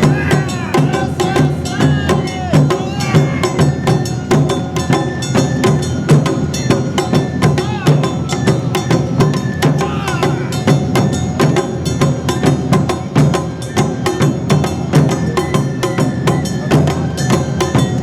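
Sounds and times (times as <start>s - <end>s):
clacking struck percussion: 0.0s - 18.0s
drums: 0.0s - 18.0s.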